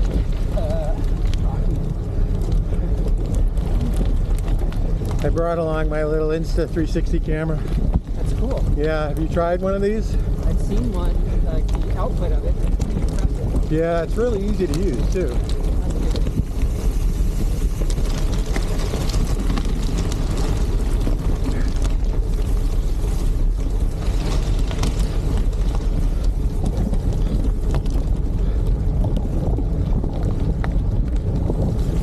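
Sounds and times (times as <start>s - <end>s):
tyres crackling on gravel: 0.0s - 32.0s
wind buffeting microphone: 0.0s - 32.0s.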